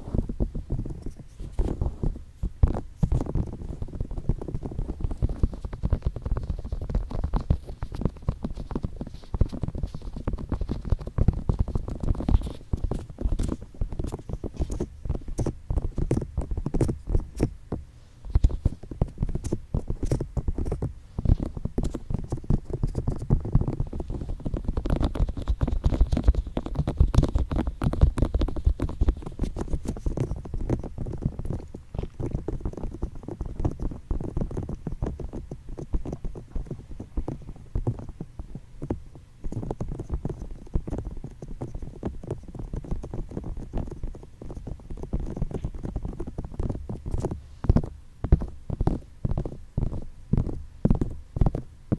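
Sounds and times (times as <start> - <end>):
fingertips tapping on microphone: 0.0 - 51.9.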